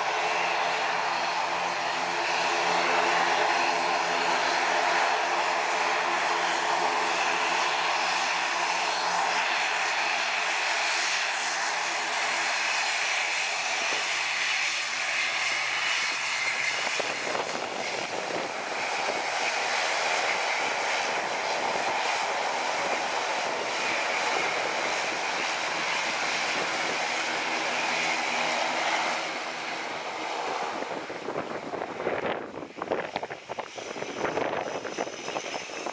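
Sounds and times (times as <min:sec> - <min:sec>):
propeller aircraft engines droning: 0:00.0 - 0:35.9.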